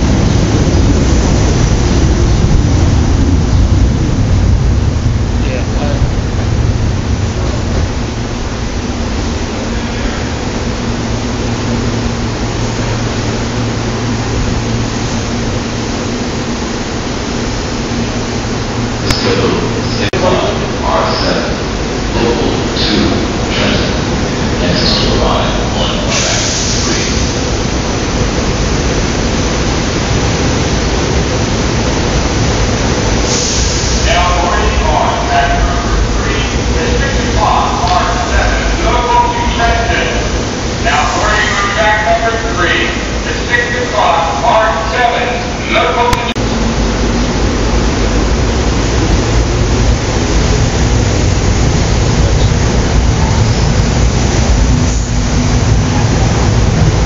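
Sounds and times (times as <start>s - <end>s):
electric train pulling away: 0.0s - 57.0s.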